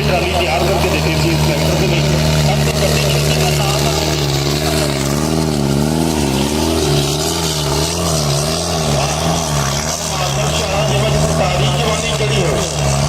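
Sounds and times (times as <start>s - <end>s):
tractor diesel engine labouring: 0.0s - 13.0s.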